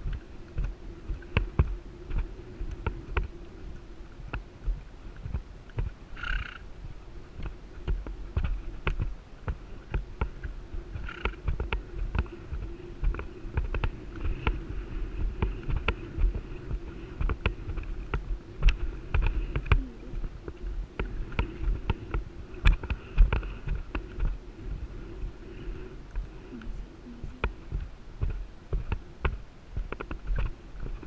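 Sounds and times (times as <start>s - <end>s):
horse hooves on sand: 0.0s - 31.0s
wind rumble on microphone: 0.0s - 31.0s.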